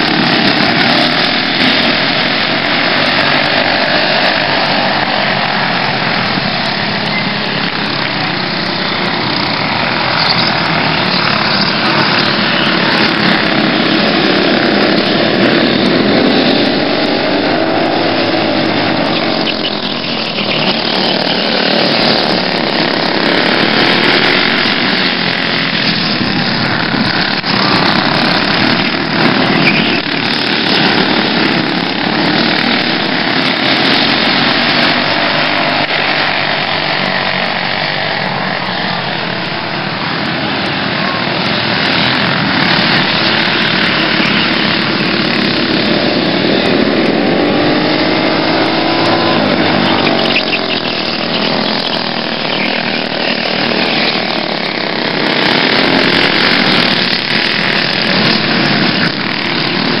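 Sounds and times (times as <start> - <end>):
kart engines revving: 0.0 - 60.0.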